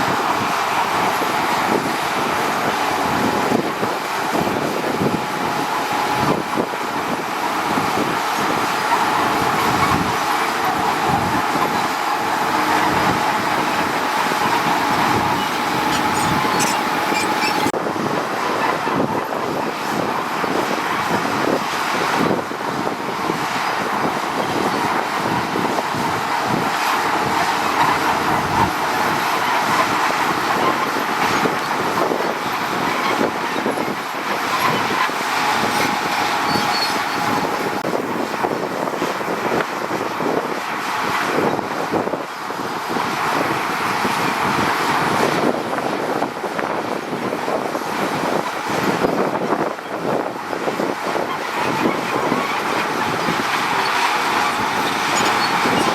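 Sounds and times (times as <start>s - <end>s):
diesel engines running: 0.0s - 18.5s, 19.6s - 55.9s.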